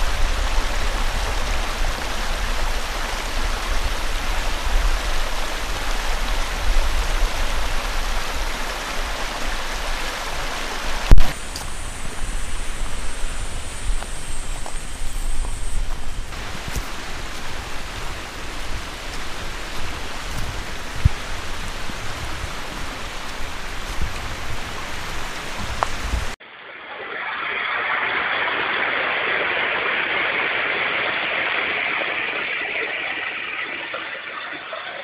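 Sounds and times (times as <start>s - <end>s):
creek water rushing over stones: 0.0s - 35.0s.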